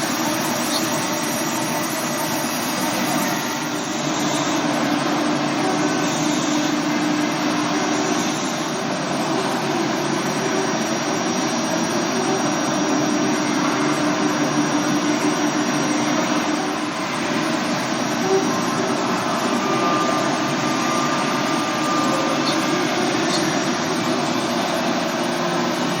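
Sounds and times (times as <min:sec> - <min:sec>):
machining center whirring: 0:00.0 - 0:26.0
thin high whine: 0:00.0 - 0:26.0.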